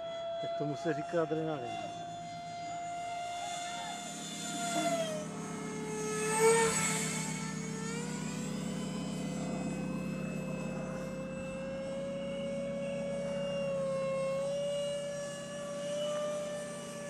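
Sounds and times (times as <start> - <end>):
model jet engine whine: 0.0 - 17.0.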